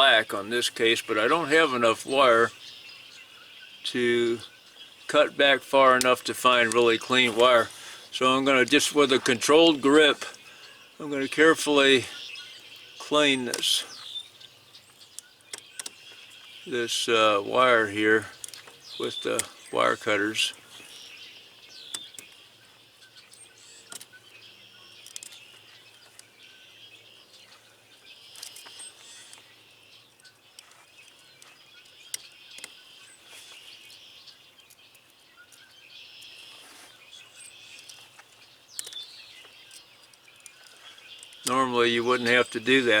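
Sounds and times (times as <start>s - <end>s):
faint bird chirping: 0.0s - 43.0s.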